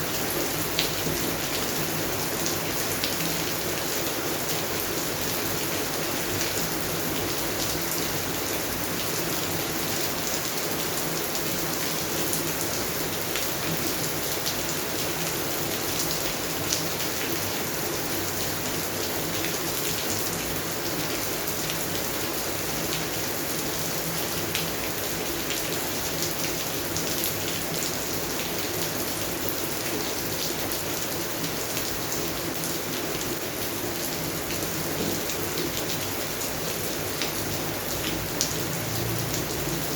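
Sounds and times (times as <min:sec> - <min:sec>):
rain falling on plants: 0:00.0 - 0:39.9.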